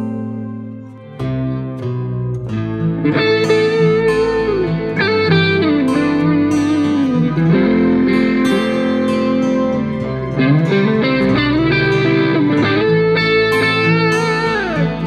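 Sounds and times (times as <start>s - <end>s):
guitar with bending notes: 0.0s - 15.0s.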